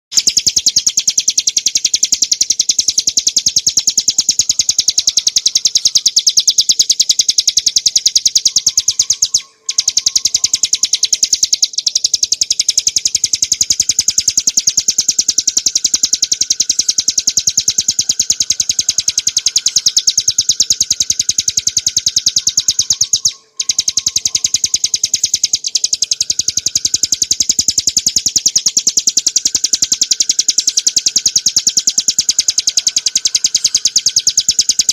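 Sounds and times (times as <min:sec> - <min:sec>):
bird singing high-pitched trill: 0:00.1 - 0:34.9.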